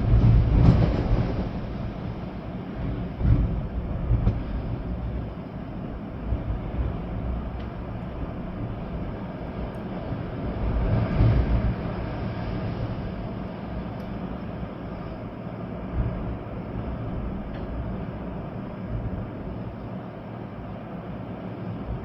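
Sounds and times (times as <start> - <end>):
wind gusting through trees: 0.0 - 22.0
wind rumbling on microphone: 0.0 - 22.0.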